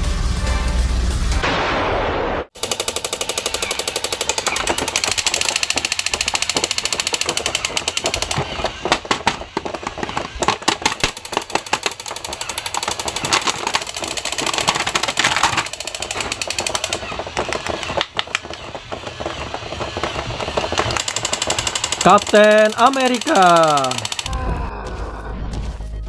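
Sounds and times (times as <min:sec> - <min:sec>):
rapid mechanical rattling: 0:02.6 - 0:24.4.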